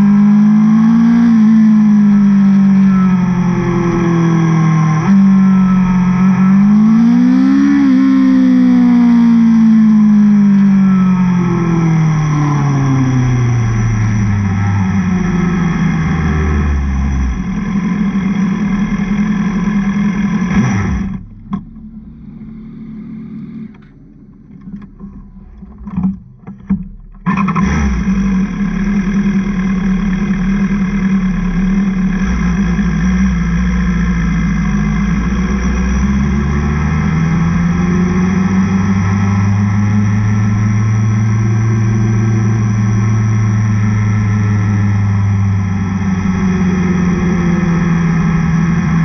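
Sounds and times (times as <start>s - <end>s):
motorcycle engine at high revs: 0.0s - 24.0s, 27.2s - 49.0s.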